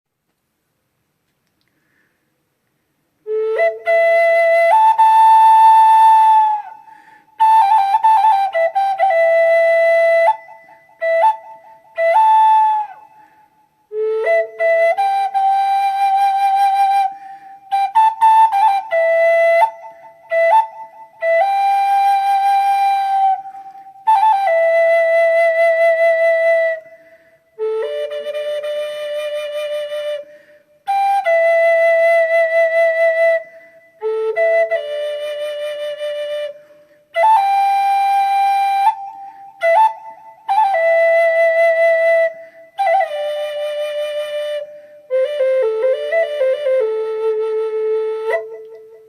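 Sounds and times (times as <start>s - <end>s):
solo flute melody: 3.1s - 49.0s.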